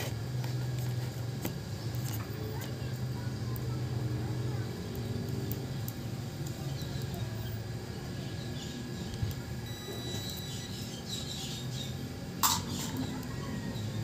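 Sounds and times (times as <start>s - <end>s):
small birds chirping: 1.7s - 14.0s.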